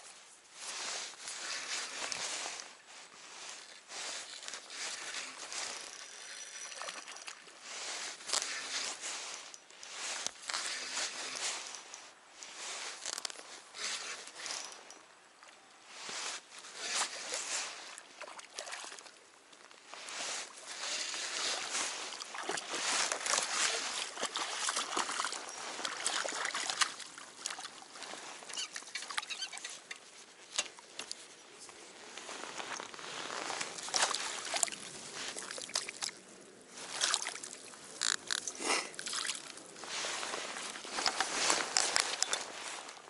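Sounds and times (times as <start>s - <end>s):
water splashing and sloshing: 0.6s - 14.9s, 15.9s - 31.2s, 31.9s - 43.0s.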